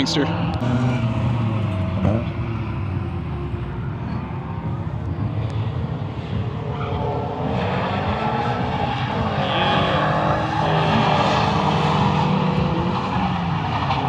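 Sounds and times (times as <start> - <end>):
drift car engines revving: 0.0 - 14.0.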